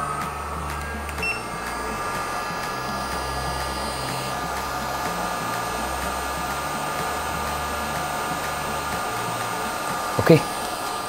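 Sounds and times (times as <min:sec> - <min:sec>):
hot air gun hissing: 0:00.0 - 0:11.0.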